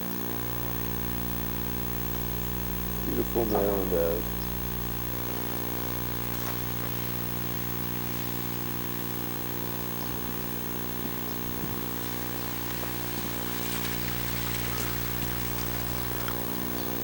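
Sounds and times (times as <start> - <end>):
electrical hum with overtones: 0.0 - 17.0
faint hiss: 0.0 - 17.0.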